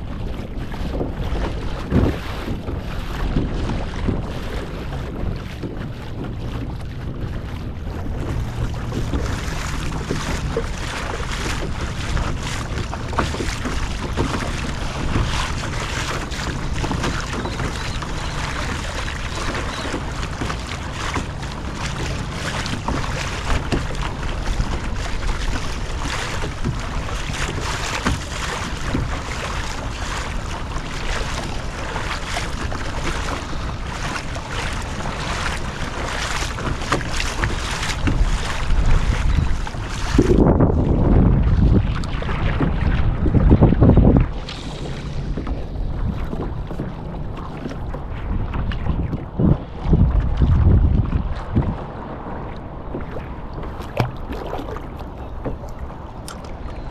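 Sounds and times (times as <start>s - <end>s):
water lapping against kayak hull: 0.0s - 56.9s
wind buffeting microphone: 0.0s - 56.9s.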